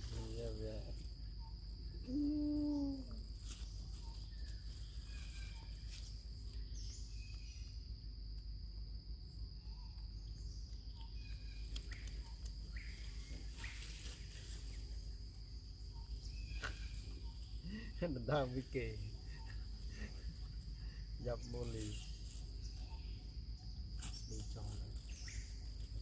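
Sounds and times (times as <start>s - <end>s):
high-pitched insect drone: 0.0s - 8.0s, 10.9s - 26.0s.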